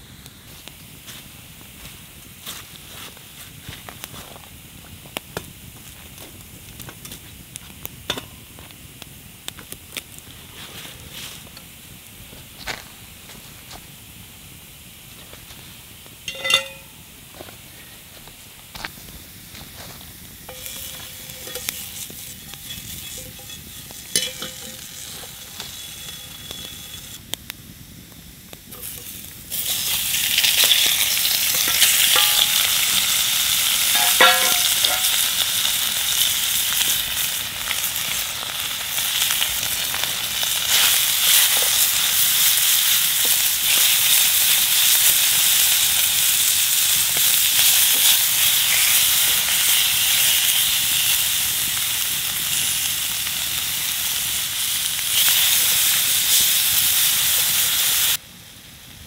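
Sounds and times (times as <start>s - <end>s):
sizzling hiss with crackles: 0.0s - 59.0s.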